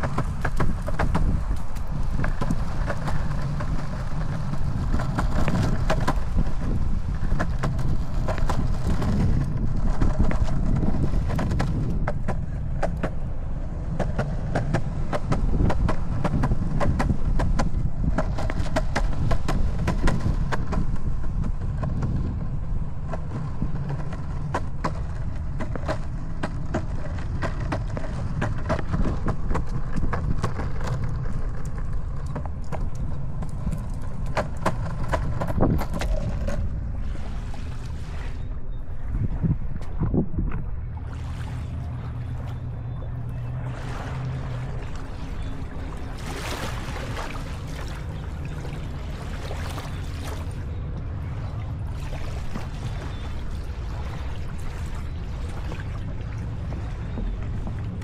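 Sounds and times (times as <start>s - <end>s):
wheels clicking over pavement seams: 0.0s - 41.0s, 41.6s - 58.0s
longboard wheels rolling on concrete: 0.0s - 58.0s.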